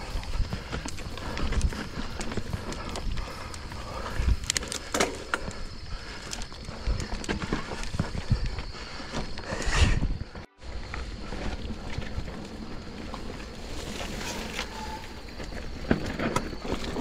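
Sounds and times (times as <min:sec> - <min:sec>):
bike rattling and knocking: 0:00.0 - 0:09.6, 0:10.2 - 0:17.0
bike tyres crunching over rocks: 0:00.0 - 0:17.0.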